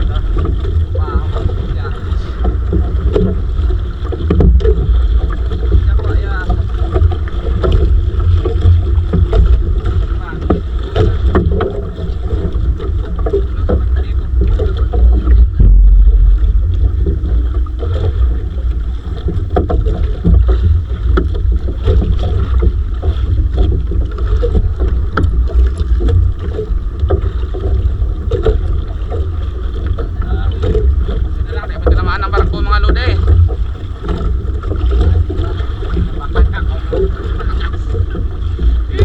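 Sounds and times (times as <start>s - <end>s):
knocks and clicks from boat: 0.0s - 39.0s
wind rumbling on microphone: 0.0s - 39.0s.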